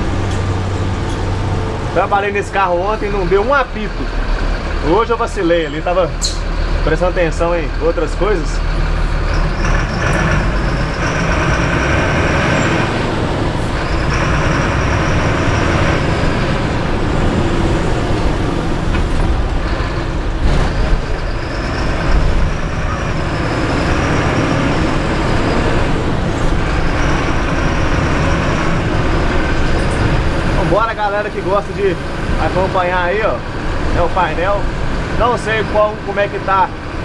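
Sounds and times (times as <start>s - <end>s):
bus engine running: 0.0s - 37.0s.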